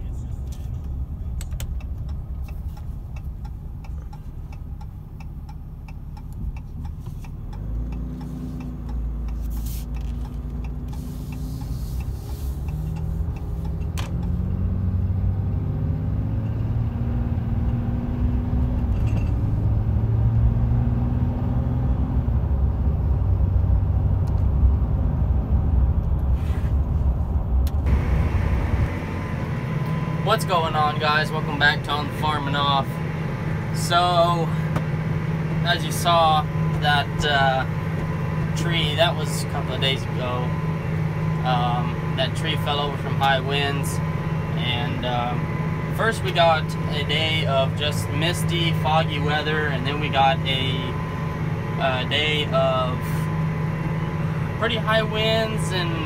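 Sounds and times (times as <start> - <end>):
diesel engine revving under load: 0.0 - 56.0.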